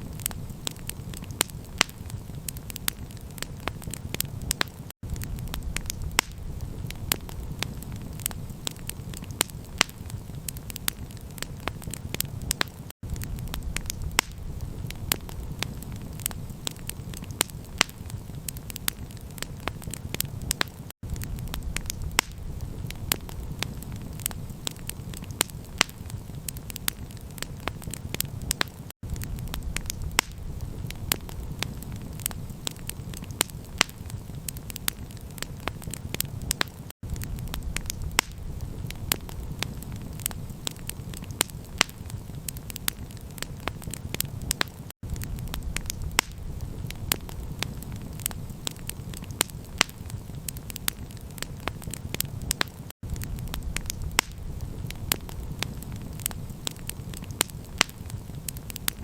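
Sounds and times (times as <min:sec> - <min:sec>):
campfire crackling and popping: 0:00.0 - 0:59.0
low rumble of burning fire: 0:00.0 - 0:59.0.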